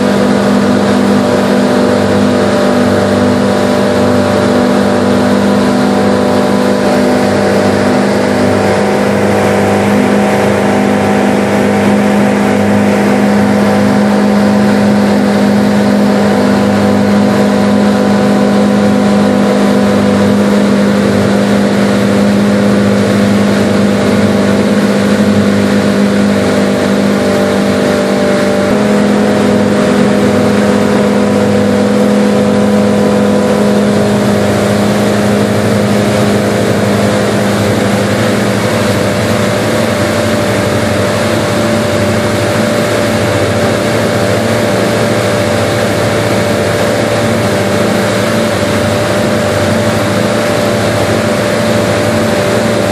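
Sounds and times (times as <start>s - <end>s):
boat engines running: 0.0s - 52.9s
water rushing from hull: 0.0s - 52.9s.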